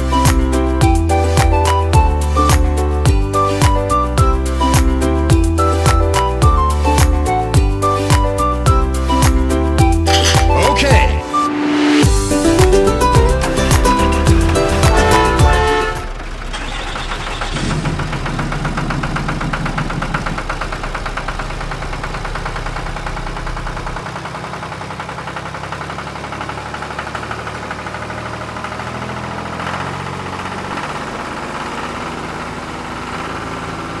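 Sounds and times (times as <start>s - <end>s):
diesel tractor engine running: 0.0s - 34.0s.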